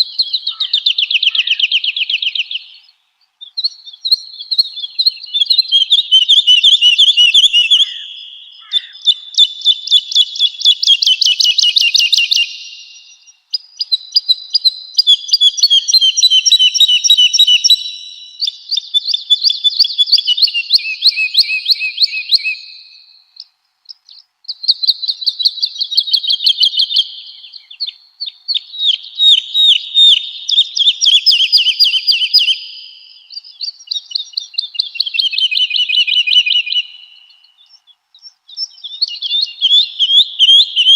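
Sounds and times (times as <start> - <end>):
woodlark singing: 0.0 - 40.9.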